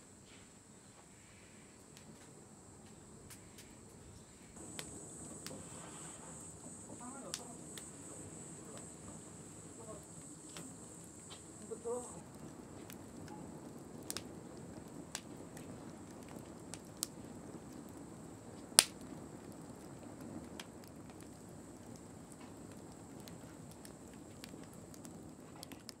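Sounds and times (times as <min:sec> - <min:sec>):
flame rushing: 0:01.2 - 0:26.0
burning wood crackling and popping: 0:01.8 - 0:04.0, 0:04.6 - 0:26.0.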